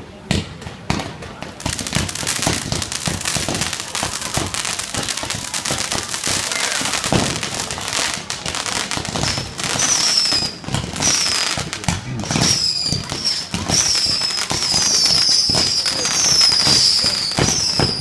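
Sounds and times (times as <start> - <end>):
fireworks crackling bangs and pops: 0.0 - 18.0
falling fireworks whistles: 1.6 - 18.0.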